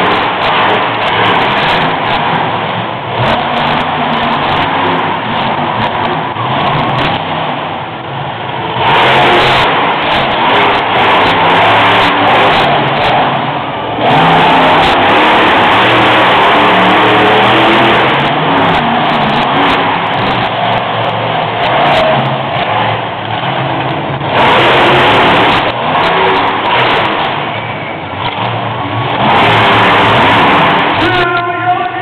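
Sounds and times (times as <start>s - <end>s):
monster truck engine revving: 0.0s - 32.0s.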